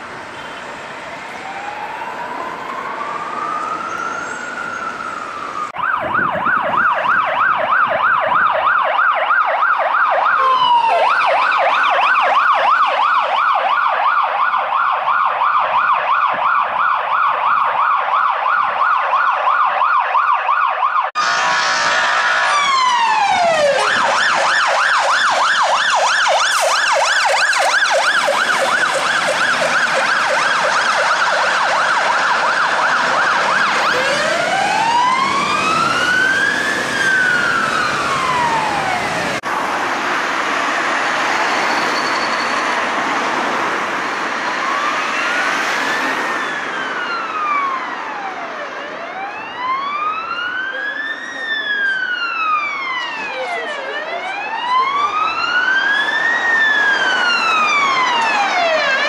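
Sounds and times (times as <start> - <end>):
siren wailing: 0.0 - 59.0
siren yelping: 0.6 - 39.7, 41.0 - 59.0.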